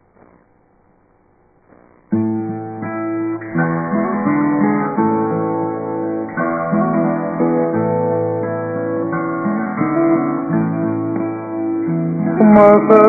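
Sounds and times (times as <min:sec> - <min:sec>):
acoustic guitar playing: 0:02.1 - 0:13.0.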